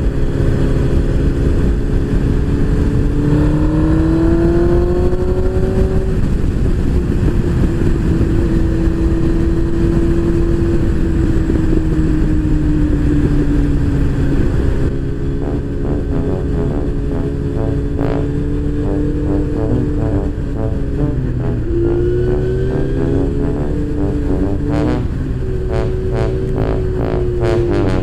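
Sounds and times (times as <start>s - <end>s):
motorcycle engine revving: 0.0s - 28.0s
wind rush on microphone: 0.0s - 28.0s.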